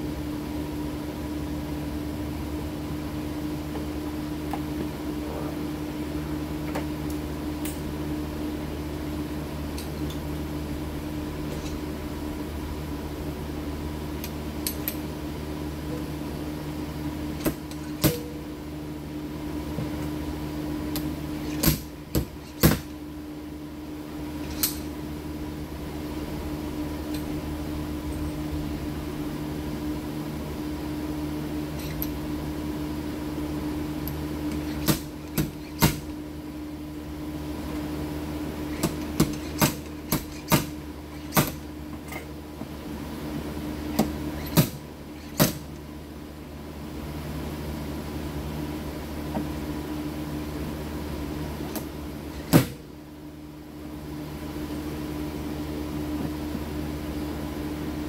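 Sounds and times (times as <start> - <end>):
machine hum: 0.0 - 58.0.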